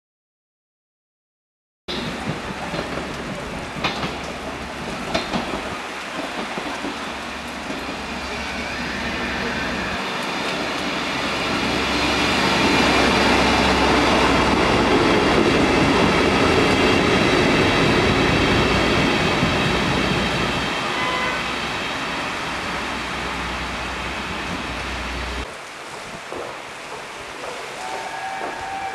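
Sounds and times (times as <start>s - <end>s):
steam train passing: 1.9s - 28.9s.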